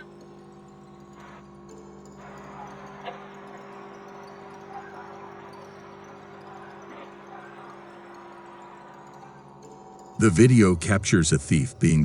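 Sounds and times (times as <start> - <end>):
held drone music: 0.0 - 12.0.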